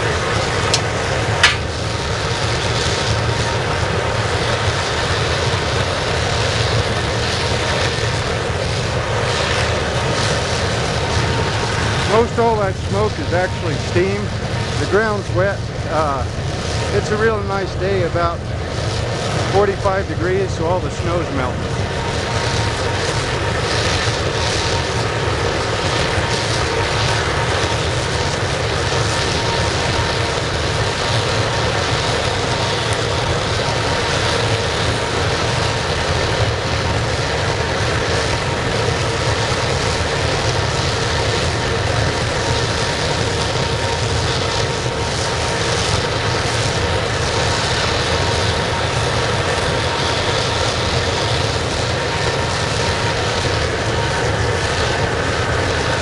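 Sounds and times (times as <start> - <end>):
faint steady whine: 0.0 - 56.0
roar of burner flame: 0.0 - 56.0.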